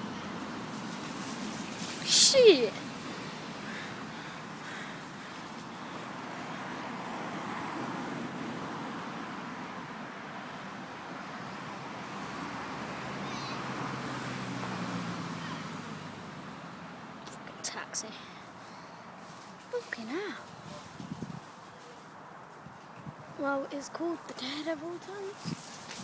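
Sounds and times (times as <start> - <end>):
outdoor rushing noise: 0.0 - 23.4
passing vehicle engine hum: 0.0 - 26.0.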